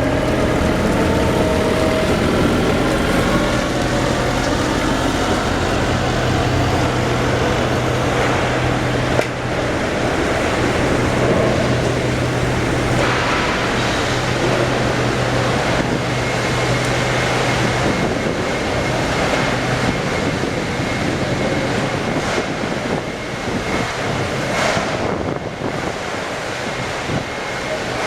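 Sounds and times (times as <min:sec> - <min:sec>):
low hum: 0:00.0 - 0:25.6
quayside machinery and engine noise: 0:00.0 - 0:28.0.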